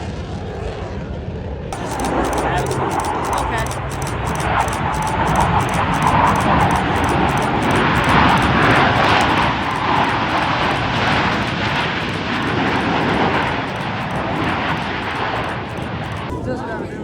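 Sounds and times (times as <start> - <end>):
aircraft engine rushing: 1.8 - 16.4.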